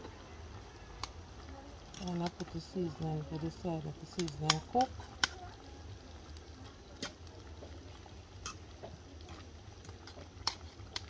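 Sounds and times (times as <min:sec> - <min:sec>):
spoon stirring stew in pot: 0:00.0 - 0:11.0.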